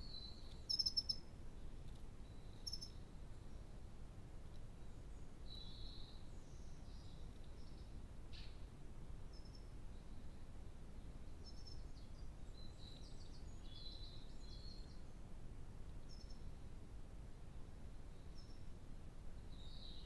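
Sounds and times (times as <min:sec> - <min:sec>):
songbird chirps: 0:00.0 - 0:16.7, 0:17.4 - 0:18.8, 0:19.4 - 0:20.0.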